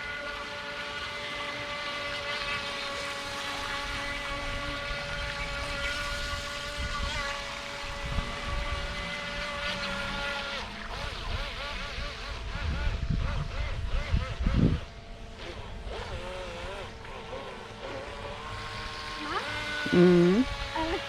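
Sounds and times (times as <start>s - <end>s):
electric motor high whine: 0.0s - 21.0s.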